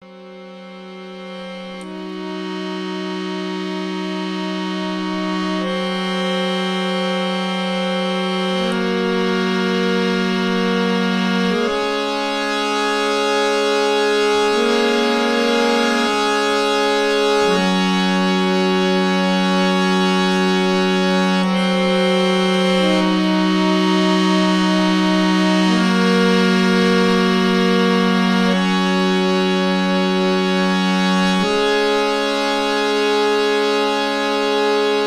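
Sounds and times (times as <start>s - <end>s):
slow organ-like chords: 0.0s - 35.0s.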